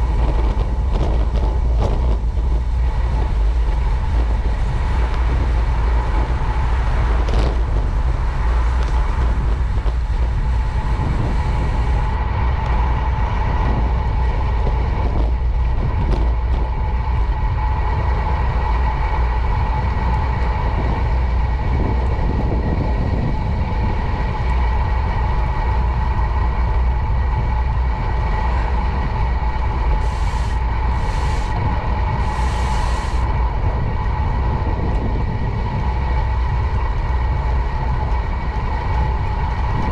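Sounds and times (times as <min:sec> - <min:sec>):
bicycle tyres on pavement: 0:00.0 - 0:39.9
steady whine: 0:00.0 - 0:39.9
wind rumbling on microphone: 0:00.0 - 0:39.9.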